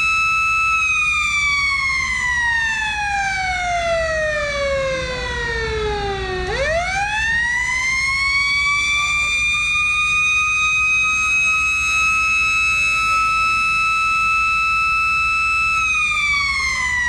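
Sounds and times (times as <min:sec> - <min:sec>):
warning siren sliding in pitch: 0:00.0 - 0:17.0.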